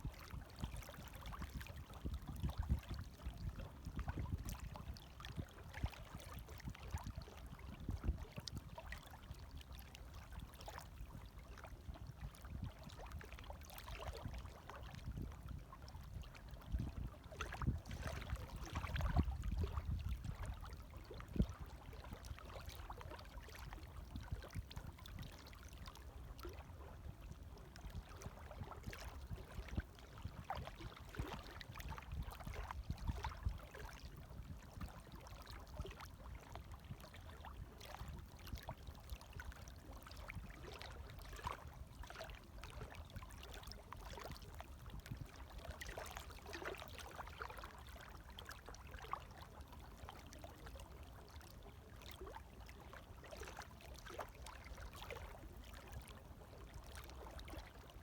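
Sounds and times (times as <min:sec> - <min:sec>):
small water splashes: 0:00.1 - 0:58.0.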